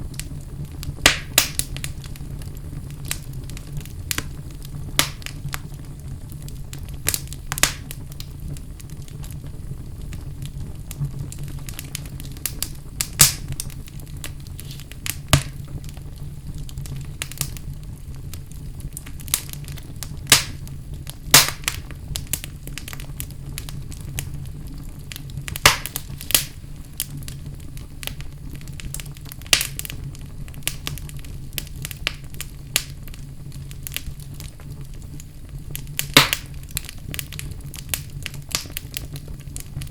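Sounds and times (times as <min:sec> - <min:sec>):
low fire rumble: 0:00.0 - 0:39.9
wood fire popping and snapping: 0:00.0 - 0:39.9.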